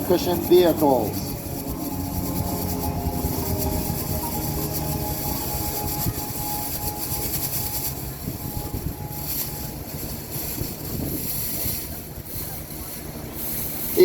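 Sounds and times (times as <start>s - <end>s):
hovercraft engine and propeller drone: 0.0s - 14.0s.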